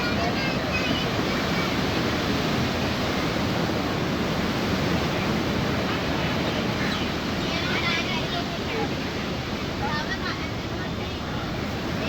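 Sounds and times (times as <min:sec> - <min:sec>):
sea surf washing: 0:00.0 - 0:12.0.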